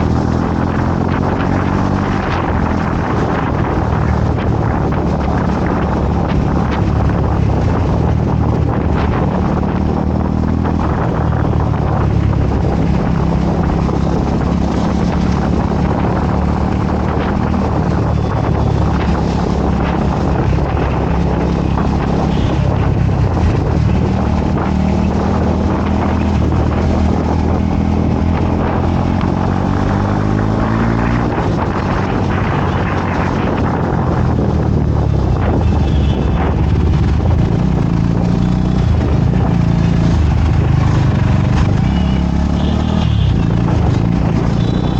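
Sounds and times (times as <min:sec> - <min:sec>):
motorcycle engine accelerating: 0:00.0 - 0:44.9
wind rushing over microphone: 0:00.0 - 0:44.9.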